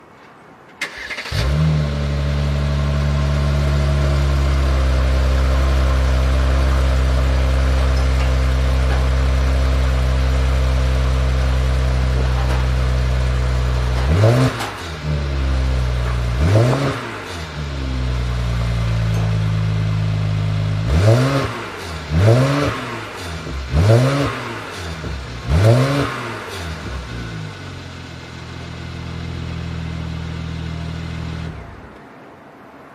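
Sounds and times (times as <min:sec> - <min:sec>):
car exhaust idling and revving: 0:01.3 - 0:32.0.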